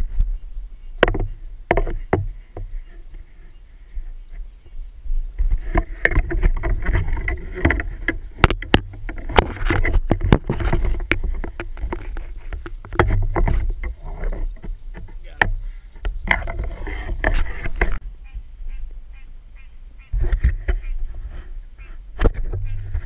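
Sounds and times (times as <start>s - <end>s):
rustling through brush and leaves: 0.0s - 23.0s.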